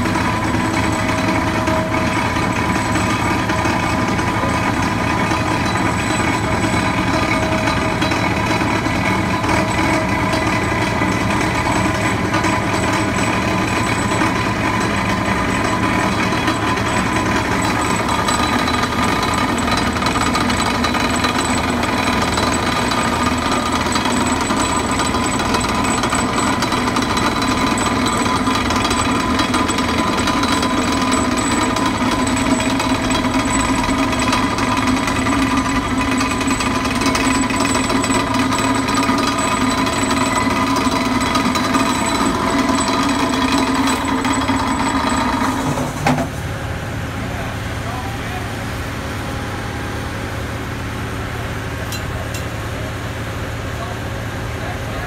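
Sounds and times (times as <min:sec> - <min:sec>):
vibratory pile driver din: 0:00.0 - 0:46.4.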